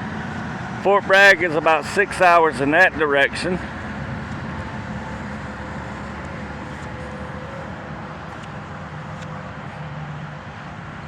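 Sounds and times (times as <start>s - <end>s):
low engine hum: 0.0s - 11.0s
road traffic noise: 0.0s - 11.0s.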